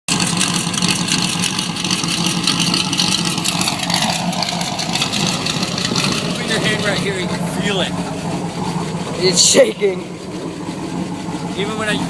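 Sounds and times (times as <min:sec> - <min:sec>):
engine exhaust idling: 0:00.1 - 0:12.0.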